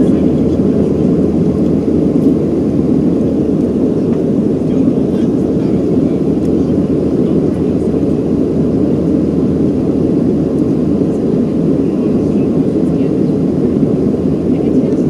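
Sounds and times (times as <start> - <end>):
jet engines and airflow in cabin: 0.0 - 15.0.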